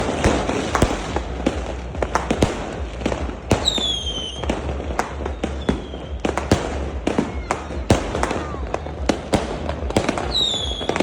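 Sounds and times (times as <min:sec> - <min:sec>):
fireworks bangs and pops: 0:00.0 - 0:11.0
low rumble: 0:00.0 - 0:11.0.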